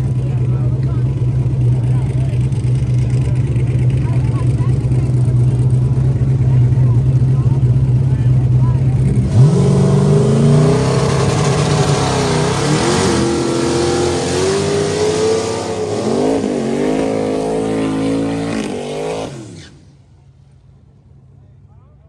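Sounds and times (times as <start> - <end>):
race car engine at high revs: 0.0 - 19.9.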